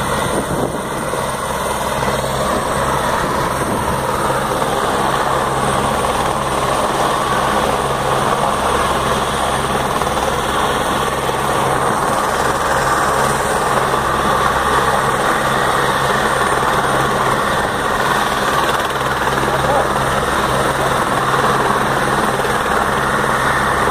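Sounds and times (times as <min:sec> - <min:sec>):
helicopter engine and rotor: 0:00.0 - 0:23.9.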